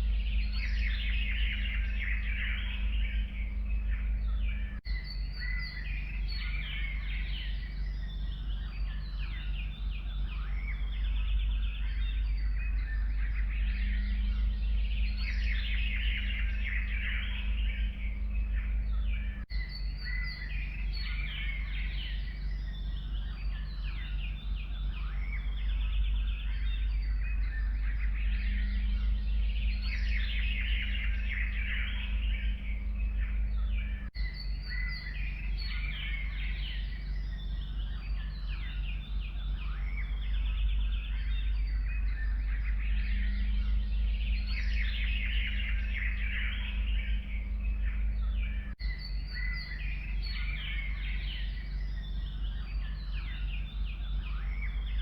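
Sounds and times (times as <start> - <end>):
songbirds chirping and singing: 0.0 - 55.0
steady low rumble: 0.0 - 55.0.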